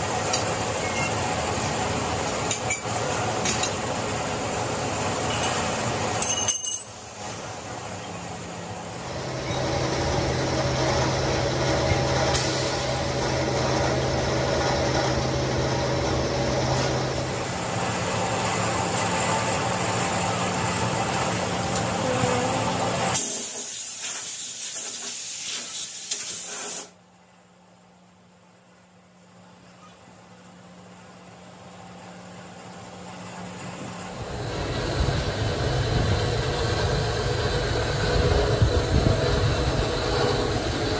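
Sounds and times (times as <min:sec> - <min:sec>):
machinery low hum: 0:00.0 - 0:23.2, 0:30.8 - 0:40.9.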